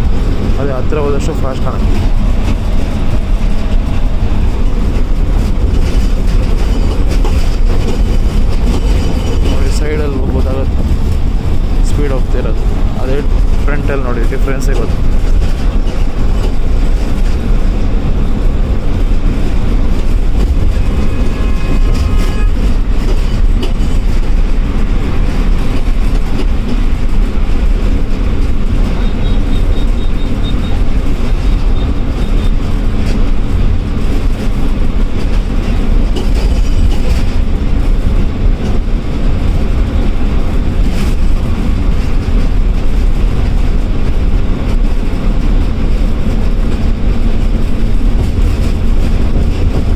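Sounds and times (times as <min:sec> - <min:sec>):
bus diesel engine drone: 0:00.0 - 0:49.9
road noise: 0:00.0 - 0:49.9.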